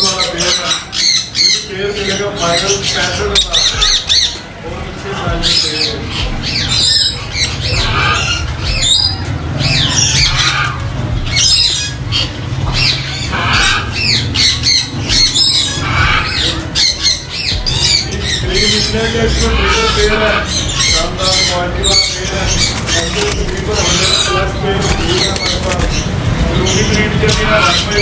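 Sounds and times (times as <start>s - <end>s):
parrots squawking: 0.0s - 4.6s, 5.4s - 28.0s.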